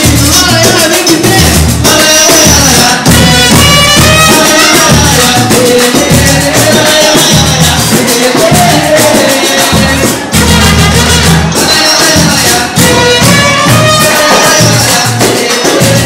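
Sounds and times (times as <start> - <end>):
samba music with percussion: 0.0 - 16.0.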